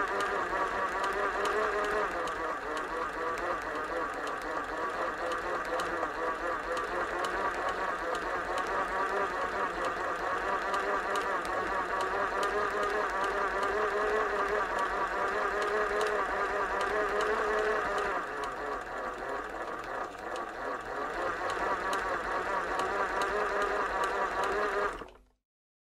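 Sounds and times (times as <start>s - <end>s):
sewing machine running: 0.0s - 25.3s.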